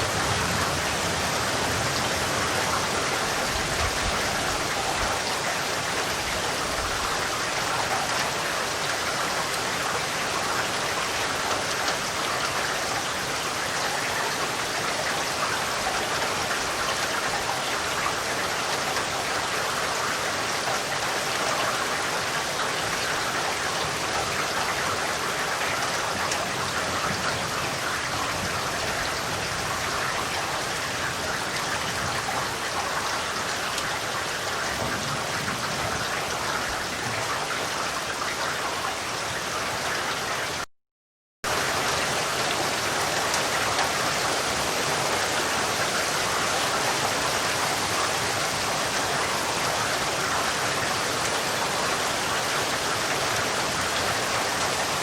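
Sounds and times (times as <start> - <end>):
steady rain falling: 0.0 - 40.7, 41.5 - 55.0.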